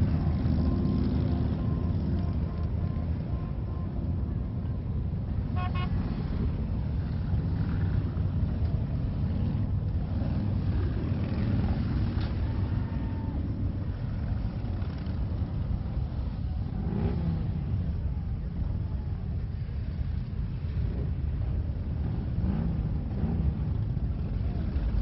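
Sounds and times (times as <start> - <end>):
faint passing vehicles: 0.0 - 25.0
road traffic rumble: 0.0 - 25.0.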